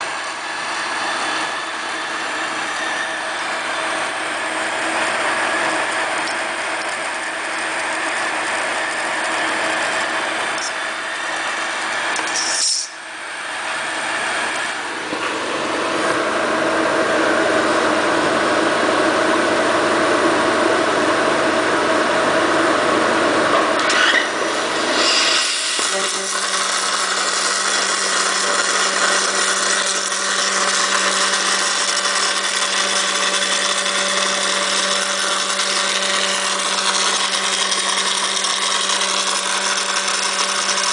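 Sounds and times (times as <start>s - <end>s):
machine humming: 0.0s - 40.9s.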